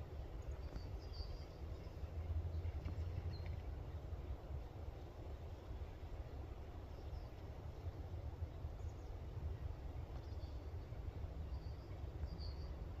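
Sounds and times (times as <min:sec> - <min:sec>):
low unsteady rumble: 0:00.0 - 0:13.0.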